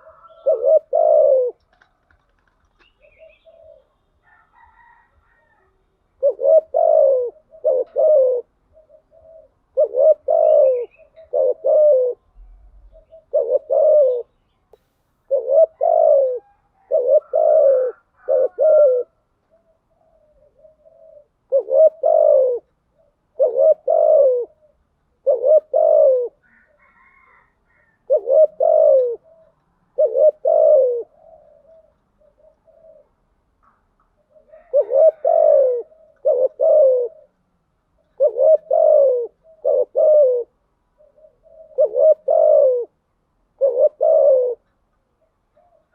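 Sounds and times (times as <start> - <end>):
dove cooing: 0.0 - 14.5, 15.2 - 45.9.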